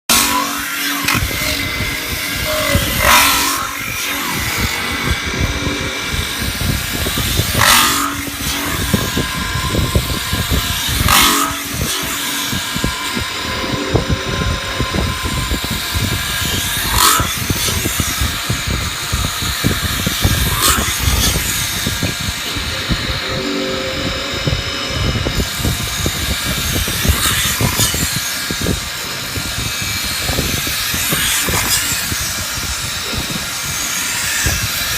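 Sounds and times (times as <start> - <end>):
metal spinning lathe running: 0.1 - 34.9.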